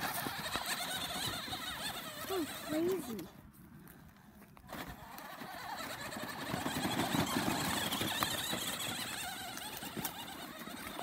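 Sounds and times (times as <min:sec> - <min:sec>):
toy truck motor whining: 0:00.0 - 0:03.4, 0:04.6 - 0:11.0.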